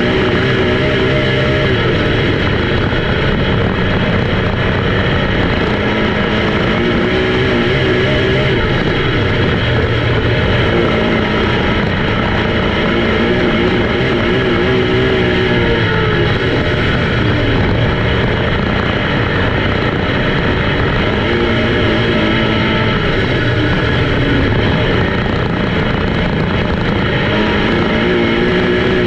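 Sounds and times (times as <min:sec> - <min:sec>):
race car engines: 0:00.0 - 0:29.0.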